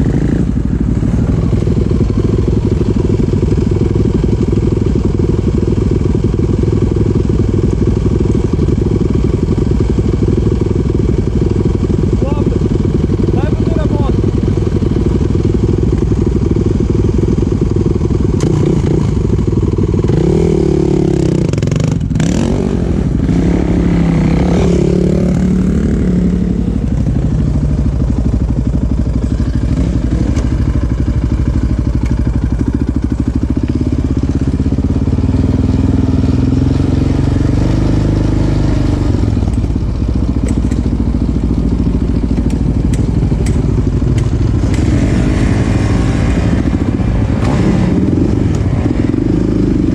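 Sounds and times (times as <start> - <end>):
off-road vehicle engine revving: 0.0 - 5.0, 6.4 - 27.4, 33.6 - 49.9.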